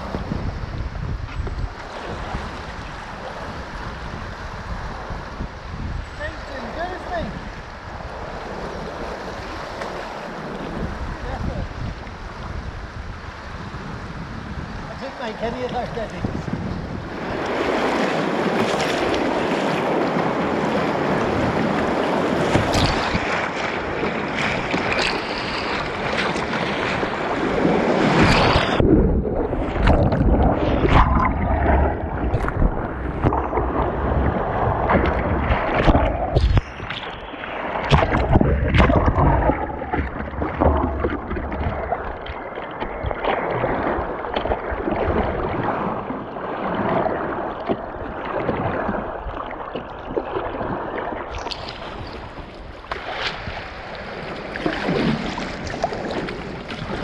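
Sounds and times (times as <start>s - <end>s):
wind buffeting microphone: 0.0s - 57.0s
whitewater rushing and splashing: 6.1s - 12.5s, 14.9s - 57.0s.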